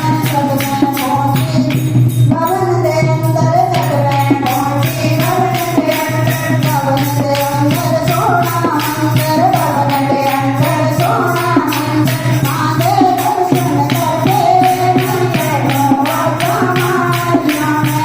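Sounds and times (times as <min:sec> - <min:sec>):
jingling percussion: 0:00.0 - 0:18.0
person singing a melody: 0:00.0 - 0:18.0.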